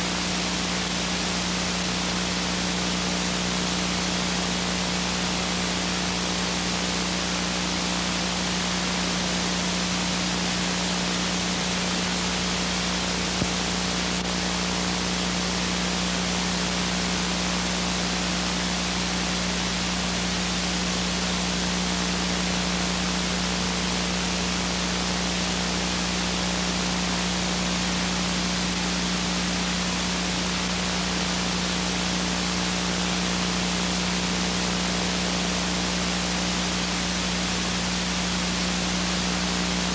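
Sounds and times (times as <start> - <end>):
tape hiss: 0.0 - 39.9.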